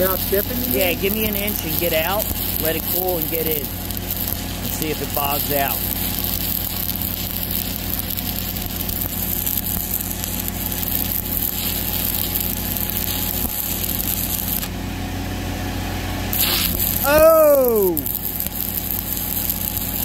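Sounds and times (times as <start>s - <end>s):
welding arc crackling: 0.0s - 14.8s, 16.2s - 20.0s
welder engine humming: 0.0s - 20.0s.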